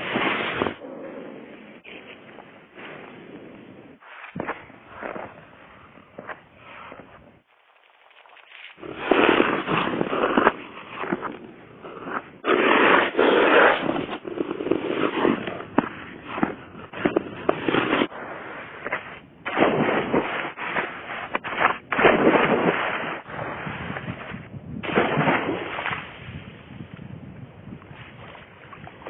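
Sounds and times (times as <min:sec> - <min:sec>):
ice skate blades scraping ice: 0:00.0 - 0:00.8, 0:01.8 - 0:03.1, 0:04.0 - 0:26.4.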